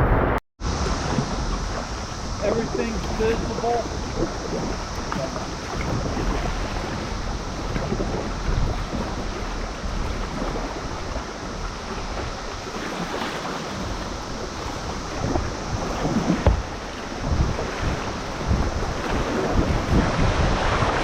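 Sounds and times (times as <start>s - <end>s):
wind buffeting microphone: 0.0s - 21.0s
river water rushing and splashing: 0.6s - 21.0s.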